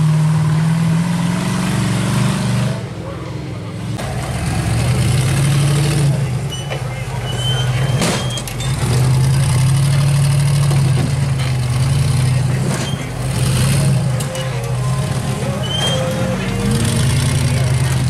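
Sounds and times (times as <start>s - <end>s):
buggy engine revving under load: 0.0s - 6.6s, 7.4s - 18.0s.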